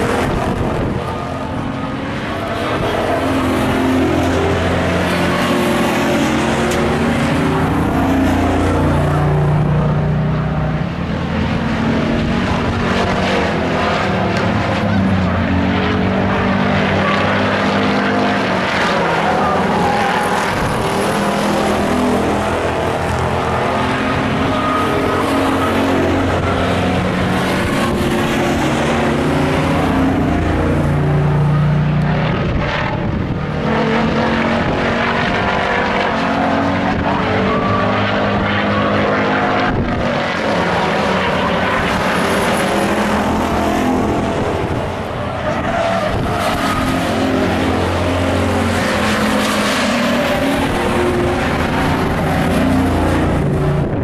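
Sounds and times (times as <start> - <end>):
racing truck engines revving: 0.0 - 54.0.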